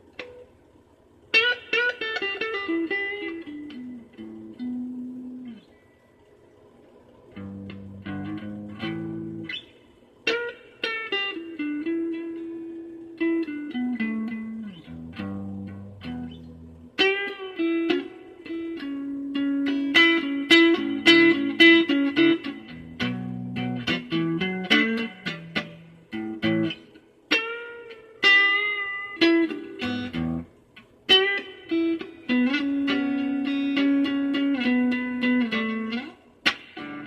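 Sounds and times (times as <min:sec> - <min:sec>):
electric guitar with string bends: 0:00.0 - 0:00.6, 0:01.2 - 0:06.4, 0:07.2 - 0:37.0.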